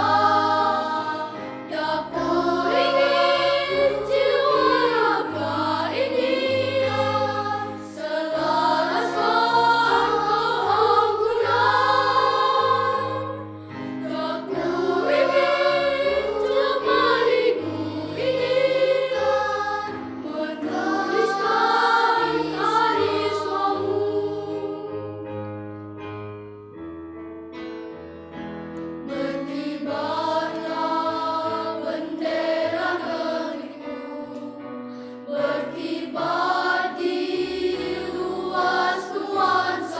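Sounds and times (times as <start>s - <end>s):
children's choir singing: 0.0s - 25.6s, 29.0s - 39.9s.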